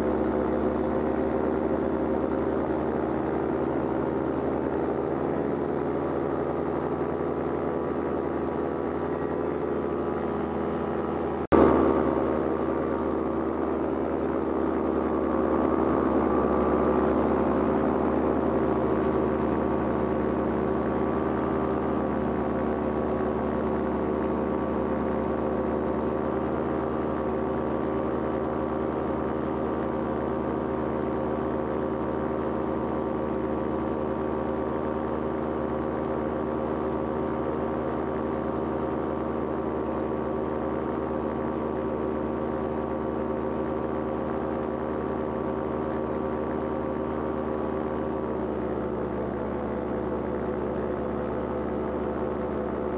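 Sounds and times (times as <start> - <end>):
paramotor engine and propeller: 0.0 - 52.9.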